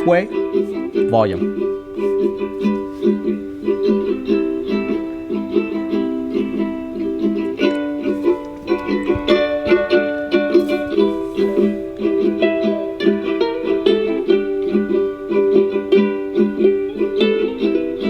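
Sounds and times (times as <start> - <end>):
plucked-string song on speaker: 0.0 - 18.0.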